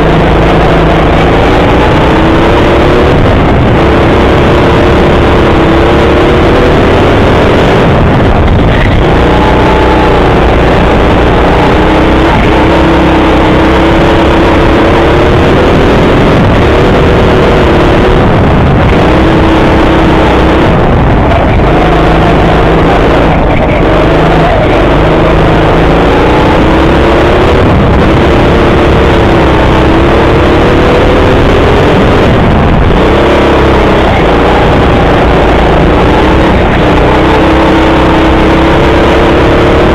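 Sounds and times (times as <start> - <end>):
go-kart motor: 0.0 - 39.9
loud steady rumble: 0.0 - 39.9.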